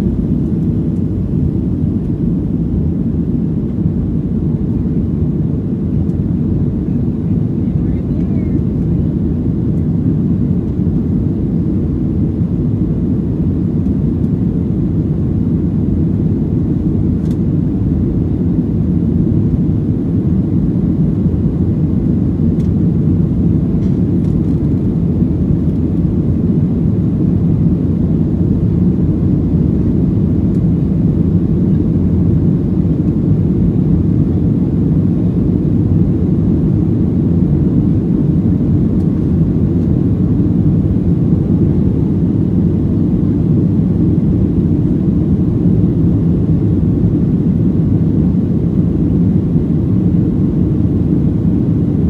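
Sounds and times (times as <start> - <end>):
jet engines rumbling in cabin: 0.0 - 52.0.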